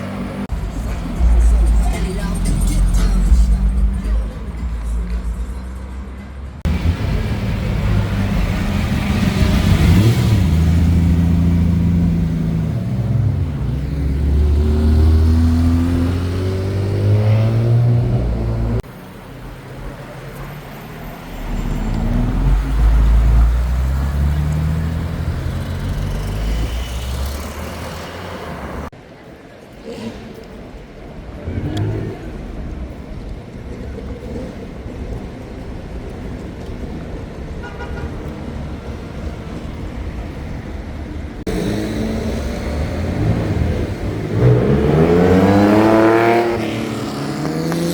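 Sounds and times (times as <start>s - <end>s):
car engines accelerating: 0.0s - 28.9s, 31.1s - 37.6s, 38.2s - 47.9s.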